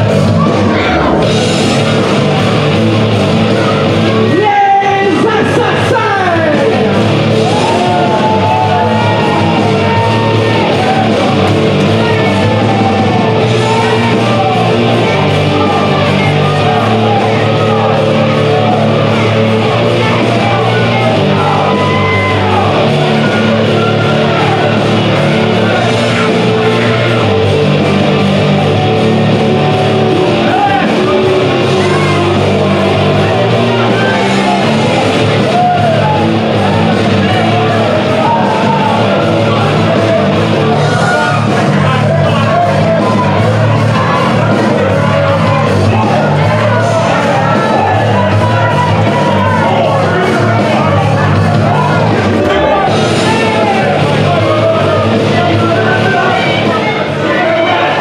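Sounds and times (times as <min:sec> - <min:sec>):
rock music with singing: 0:00.0 - 0:58.0.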